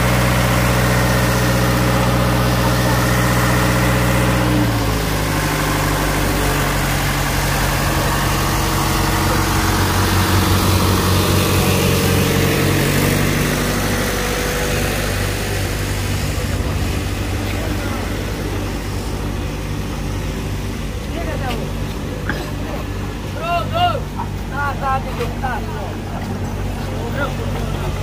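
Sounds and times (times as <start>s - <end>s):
diesel road roller engine: 0.0s - 28.0s.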